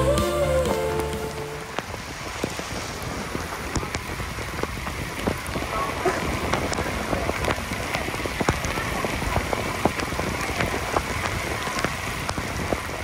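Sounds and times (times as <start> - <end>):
sharp raindrop hits: 0.0 - 13.0
steady rain hiss: 0.0 - 13.0.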